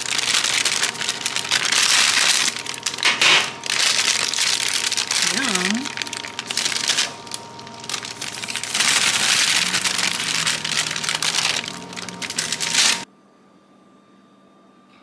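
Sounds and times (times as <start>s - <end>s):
parchment paper crinkling: 0.0s - 13.0s.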